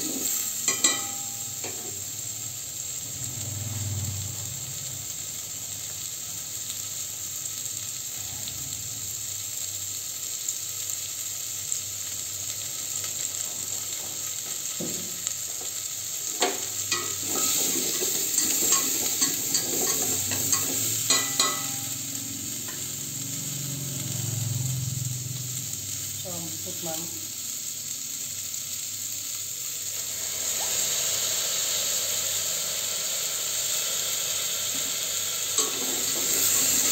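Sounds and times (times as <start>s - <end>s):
food sizzling in a pot: 0.0s - 36.9s.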